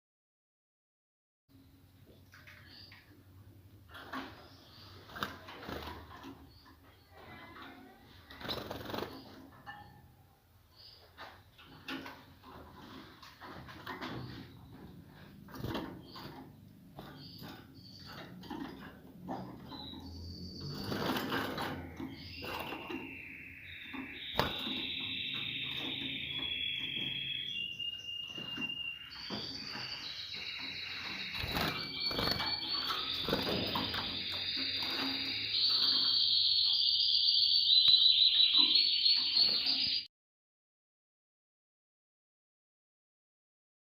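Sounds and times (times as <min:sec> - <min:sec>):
canaries singing trills: 0:02.4 - 0:40.1.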